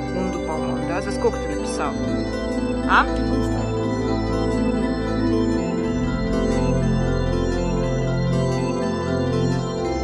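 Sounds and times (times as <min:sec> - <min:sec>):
low bass: 0:00.0 - 0:10.0.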